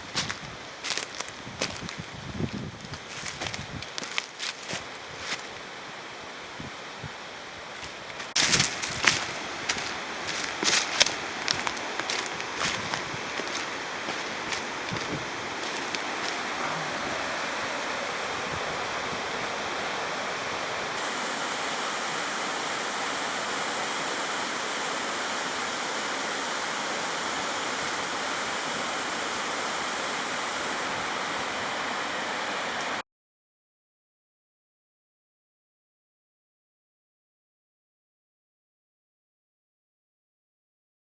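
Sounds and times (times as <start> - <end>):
flowing water: 0.0 - 33.0.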